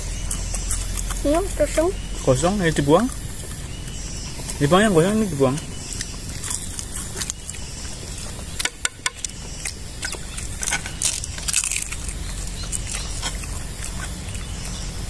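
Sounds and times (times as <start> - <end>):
crunchy food being chewed: 0.0 - 15.0.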